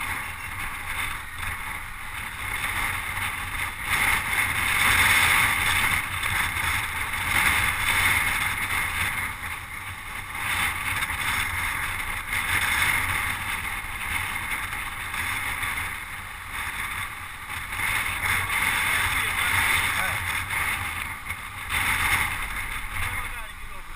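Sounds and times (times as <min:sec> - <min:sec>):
bicycle road noise: 0:00.0 - 0:23.9
wind rush: 0:00.0 - 0:23.9.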